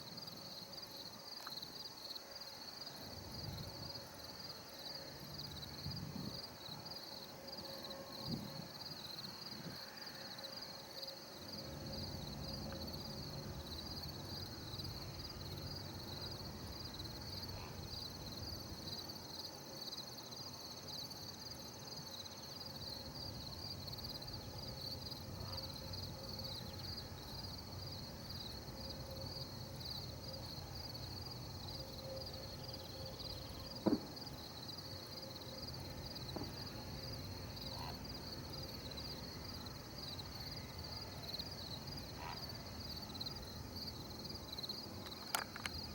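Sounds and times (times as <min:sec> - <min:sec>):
insects chirping: 0:00.0 - 0:45.9
low background noise: 0:00.0 - 0:45.9.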